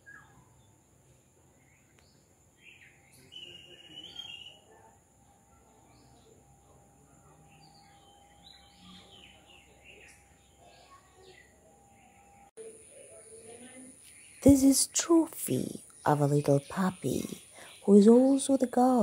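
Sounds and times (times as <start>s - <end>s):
faint steady tone: 0.0s - 16.2s
birds chirping: 0.0s - 19.0s.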